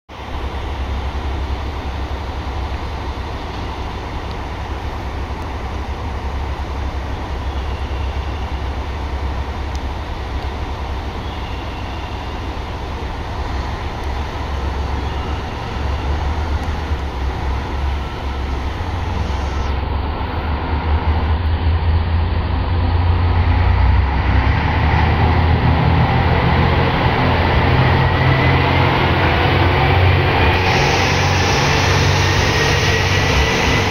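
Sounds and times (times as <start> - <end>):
diesel railcar engine: 0.1 - 33.9.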